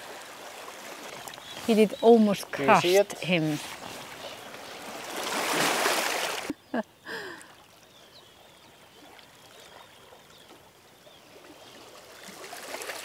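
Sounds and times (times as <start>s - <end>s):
water lapping at shore: 0.0s - 13.0s.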